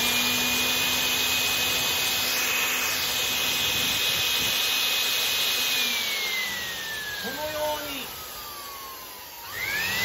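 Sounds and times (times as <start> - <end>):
electric air blower whining: 0.0 - 10.0.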